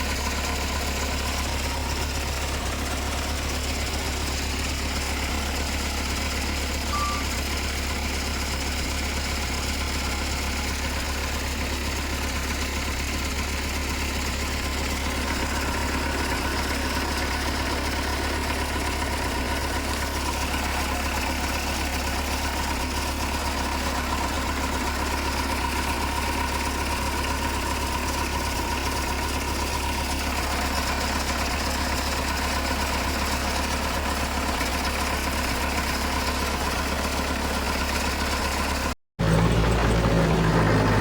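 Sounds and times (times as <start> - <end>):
heavy diesel engine drone: 0.0 - 41.0
louder engine: 0.0 - 41.0.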